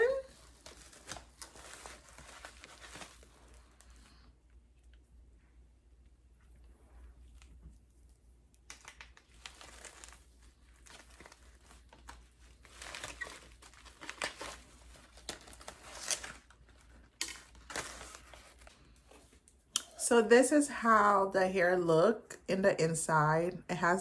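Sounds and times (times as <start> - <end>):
wig rustling and crinkling: 0.0 - 22.4.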